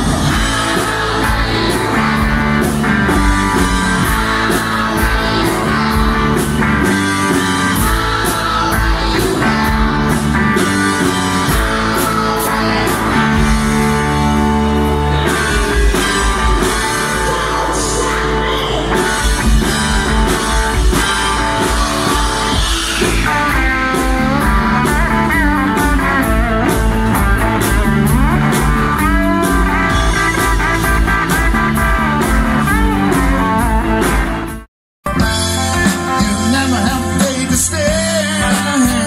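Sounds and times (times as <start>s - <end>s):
rock blues band playing: 0.0s - 39.0s.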